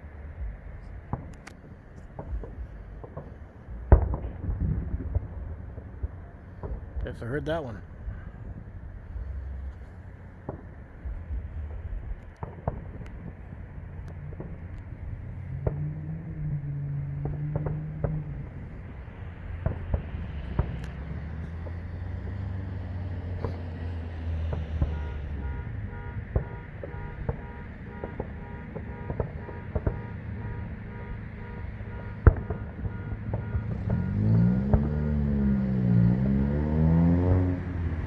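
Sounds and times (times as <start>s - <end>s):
distant fireworks bangs: 0.0s - 38.0s
road traffic rumble: 0.0s - 38.0s
vehicle passing close: 0.0s - 38.0s.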